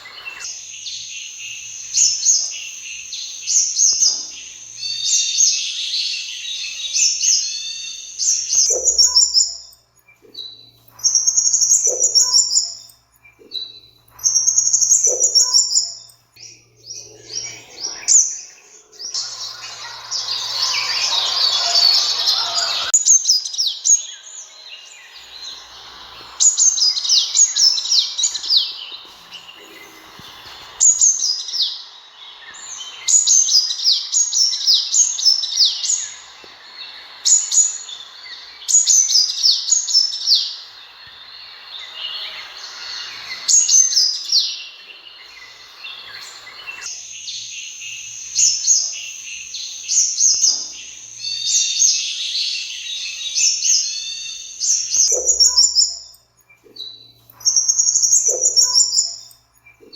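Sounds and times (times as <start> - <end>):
bird chirping: 0.0 - 59.9
steady background noise: 0.0 - 59.9.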